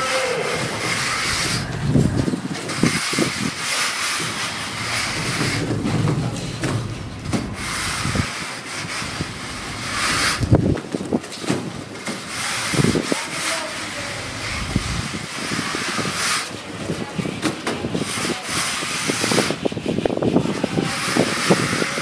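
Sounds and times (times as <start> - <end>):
screed scraping wet cement: 0.0 - 22.0.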